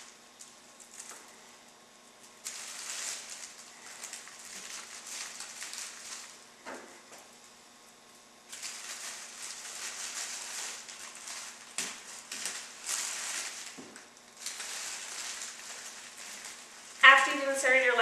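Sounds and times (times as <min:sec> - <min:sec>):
sharp foil crackles: 0:00.0 - 0:18.0
tinsel crinkling and rustling: 0:00.0 - 0:18.0.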